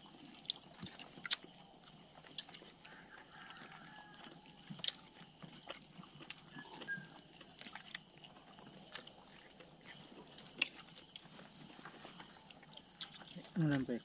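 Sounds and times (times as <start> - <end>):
night insects chirring: 0.0 - 14.0
people chewing and lip-smacking: 0.0 - 14.0.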